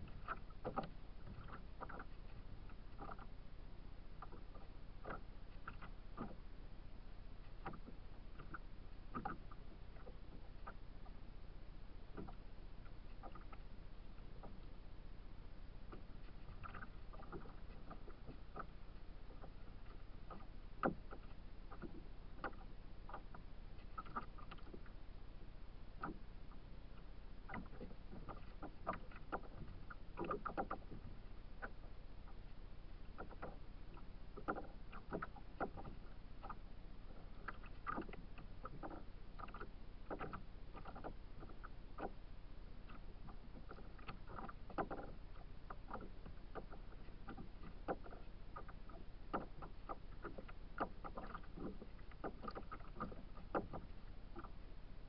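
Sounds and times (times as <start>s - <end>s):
waves slapping against a hull: 0.0s - 55.0s.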